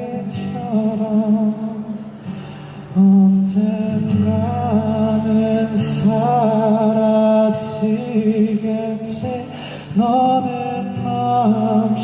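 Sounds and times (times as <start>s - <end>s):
man singing: 0.0s - 2.2s, 2.9s - 12.0s.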